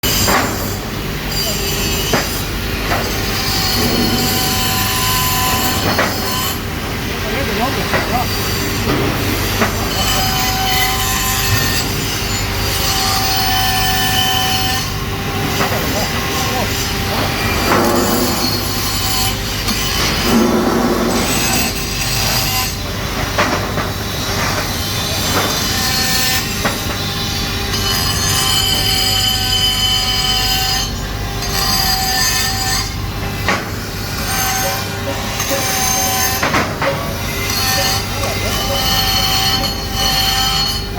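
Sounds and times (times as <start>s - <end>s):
pneumatic die grinder whining: 0.0s - 40.9s.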